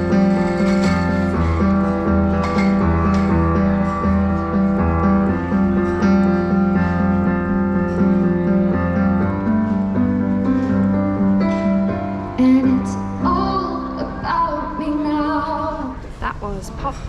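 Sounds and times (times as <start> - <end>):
synthesizer piano chords: 0.0 - 16.3.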